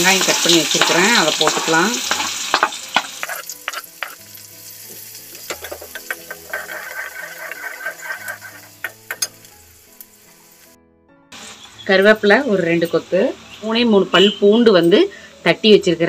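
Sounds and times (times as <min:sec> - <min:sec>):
onion frying in oil: 0:00.0 - 0:14.5.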